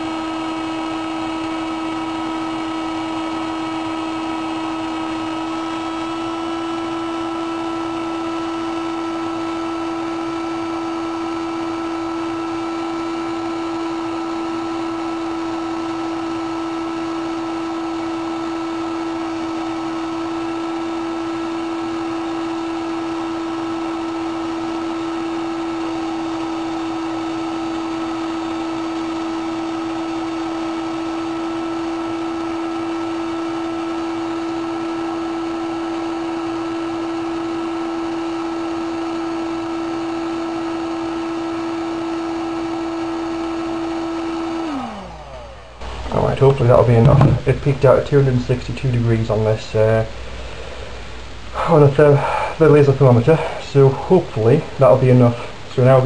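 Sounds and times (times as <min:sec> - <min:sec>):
heat gun whine and air rush: 0:00.0 - 0:56.0.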